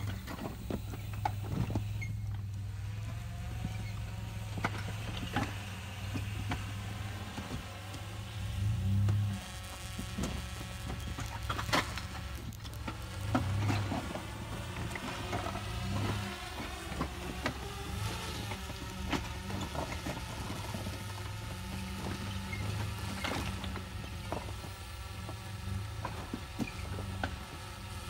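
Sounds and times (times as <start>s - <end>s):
pickup engine at low revs: 0.0s - 28.0s.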